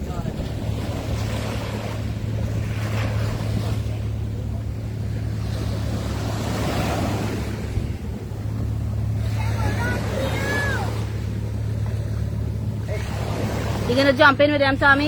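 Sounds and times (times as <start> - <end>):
boat engine humming: 0.0 - 15.0
surf washing: 0.0 - 15.0
wind: 0.0 - 15.0.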